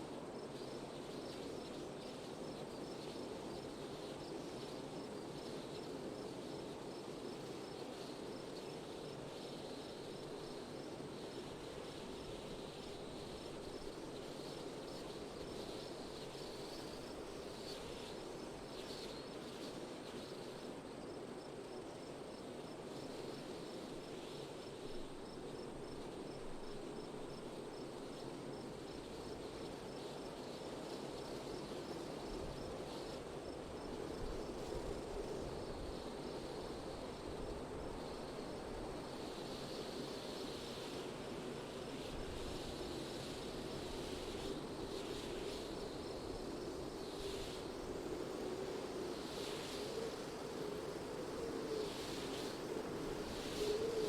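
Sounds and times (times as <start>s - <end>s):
wind: 0.0s - 54.0s.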